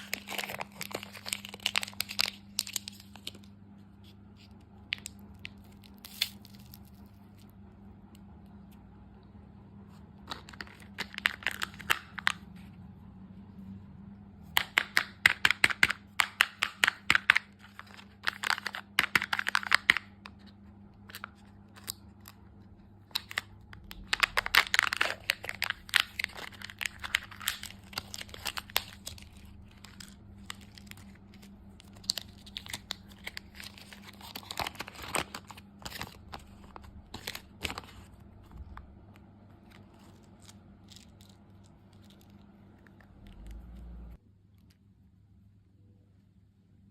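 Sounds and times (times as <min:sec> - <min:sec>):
candy wrapper crinkling: 0:00.0 - 0:07.6, 0:10.2 - 0:12.7, 0:14.6 - 0:43.8
faint steady hum: 0:00.0 - 0:46.9.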